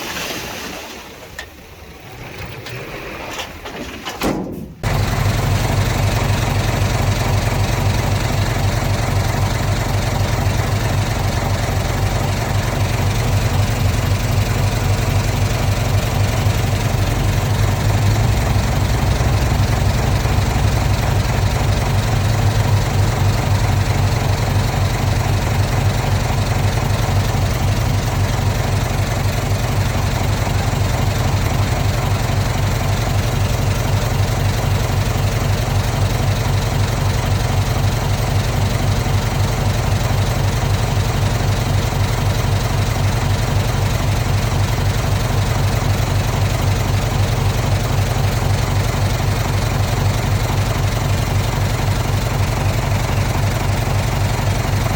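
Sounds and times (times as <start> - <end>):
diesel engine droning: 4.7 - 54.9.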